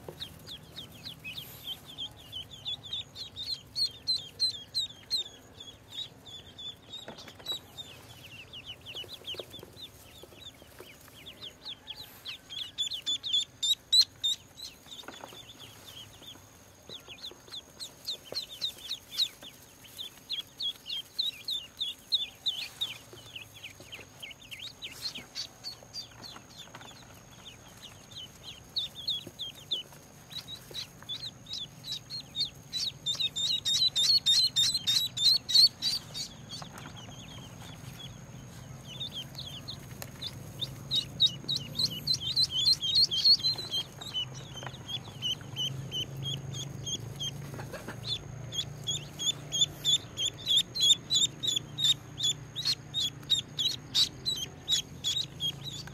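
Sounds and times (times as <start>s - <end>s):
ducklings peeping: 0.0s - 55.9s.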